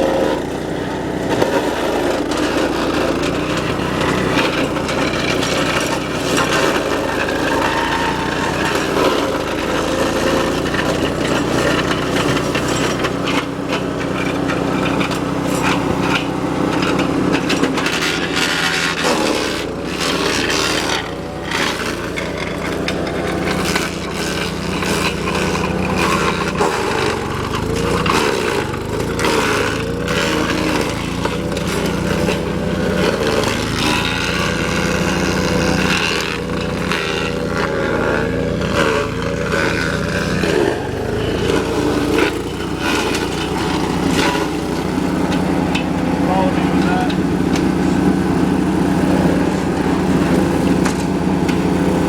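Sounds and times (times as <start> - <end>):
garden shredder engine running: 0.0 - 52.0
wood cracking and crunching: 1.2 - 52.0.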